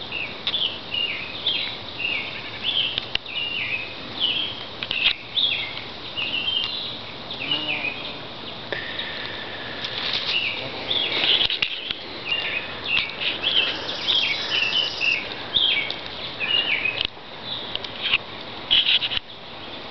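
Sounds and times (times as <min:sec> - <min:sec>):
bird chirping: 0:00.0 - 0:17.7.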